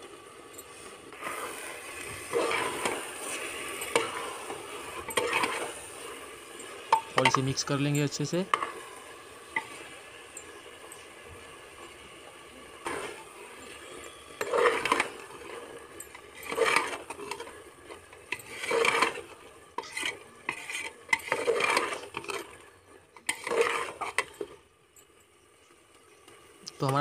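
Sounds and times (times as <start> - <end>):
ladle stirring and scraping pot: 0.4 - 24.6.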